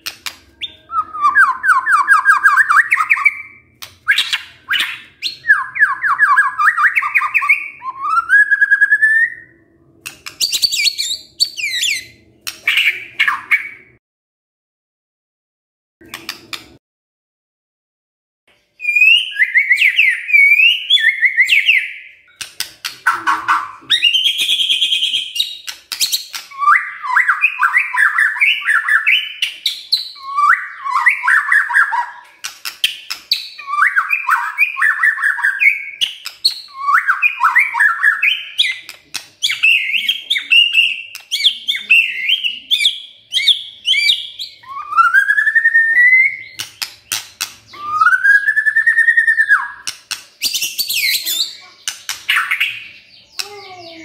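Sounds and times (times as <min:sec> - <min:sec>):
bird chattering song: 0:00.0 - 0:09.6, 0:10.2 - 0:14.0, 0:18.8 - 0:54.0.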